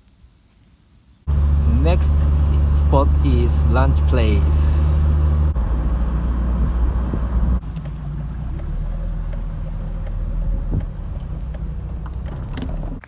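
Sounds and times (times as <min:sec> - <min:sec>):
car engine and road rumble: 0:01.3 - 0:13.0.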